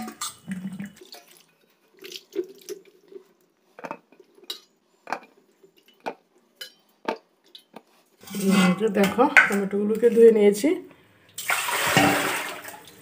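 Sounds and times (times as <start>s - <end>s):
water dripping and splashing: 0.0s - 10.6s, 11.3s - 13.0s.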